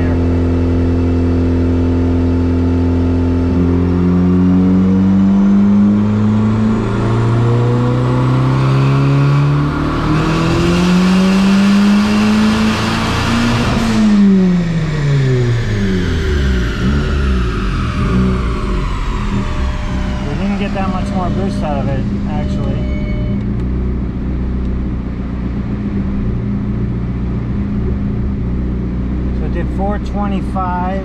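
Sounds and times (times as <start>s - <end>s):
turbo car engine revving: 0.0s - 31.0s.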